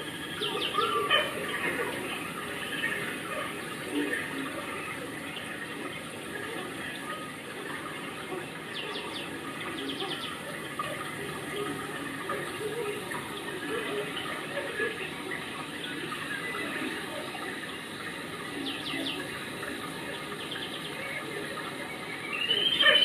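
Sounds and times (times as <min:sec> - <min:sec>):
steady rain: 0:00.0 - 0:23.0
water running and splashing: 0:00.0 - 0:23.0.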